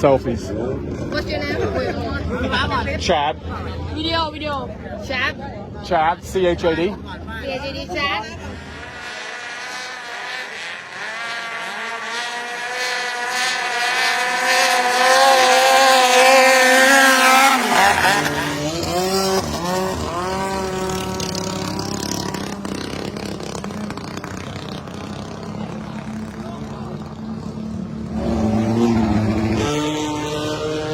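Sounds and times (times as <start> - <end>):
high-revving engine: 6.0 - 30.9.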